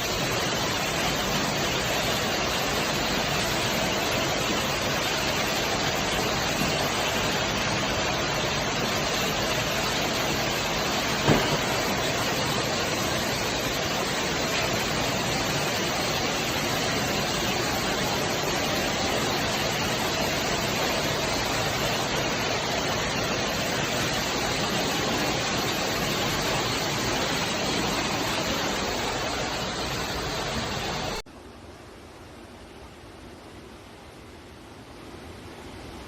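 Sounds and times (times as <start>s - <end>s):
storm water rushing: 0.0s - 31.2s.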